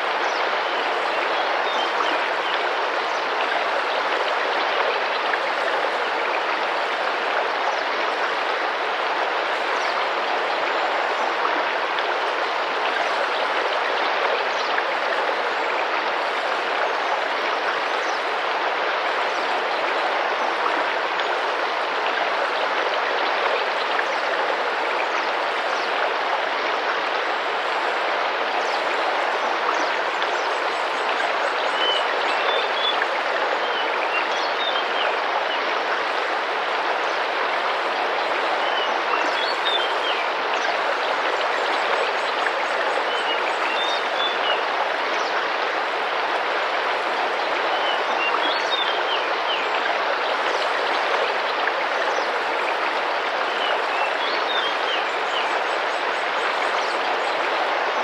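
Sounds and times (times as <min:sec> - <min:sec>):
river rushing and splashing: 0:00.0 - 0:58.0.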